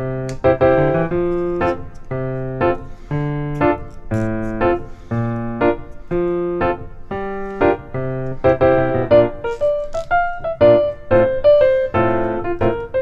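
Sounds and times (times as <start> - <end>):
keyboard chords in steady rhythm: 0.0 - 13.0.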